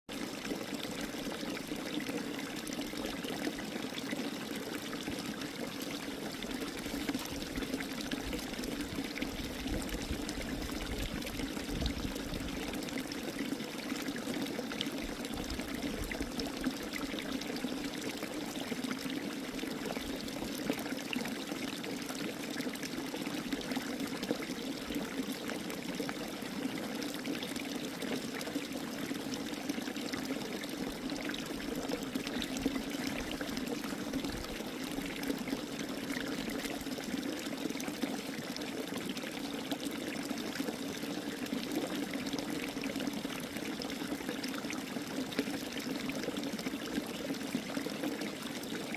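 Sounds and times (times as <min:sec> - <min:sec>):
running water trickling: 0:00.1 - 0:48.9.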